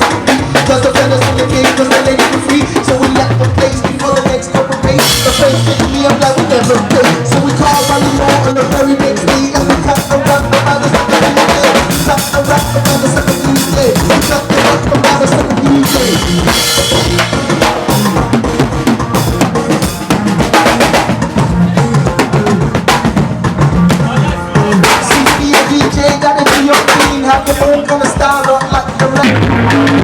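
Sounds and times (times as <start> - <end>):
drum kit: 0.0 - 30.0
instrumental band playing: 0.0 - 30.0.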